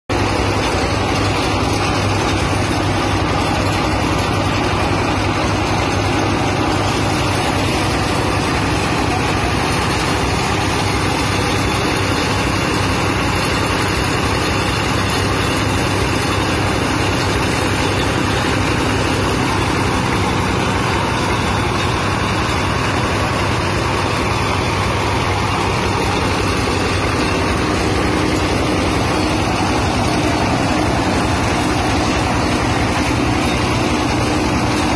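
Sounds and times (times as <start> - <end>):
small engine running: 0.1 - 34.9.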